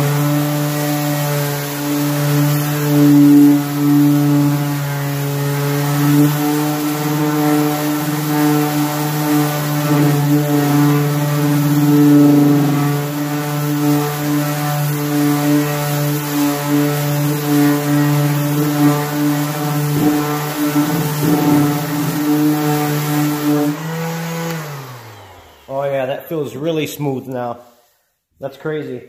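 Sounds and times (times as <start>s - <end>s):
orbital sander on wood: 0.0s - 26.0s.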